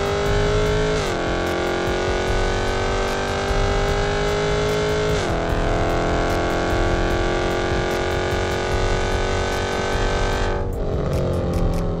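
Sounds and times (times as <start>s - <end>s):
car engine running at speed: 0.0s - 12.0s.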